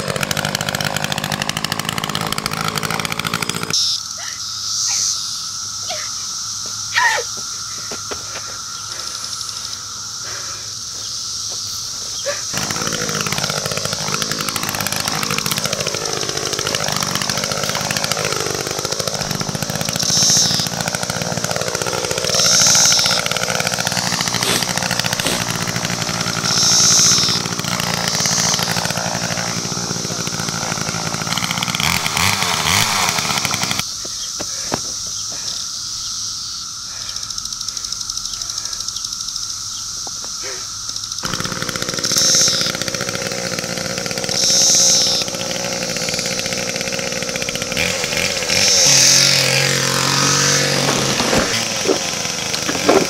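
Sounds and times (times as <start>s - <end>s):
chainsaw engine revving: 0.0s - 6.1s, 7.0s - 35.6s, 40.3s - 53.0s.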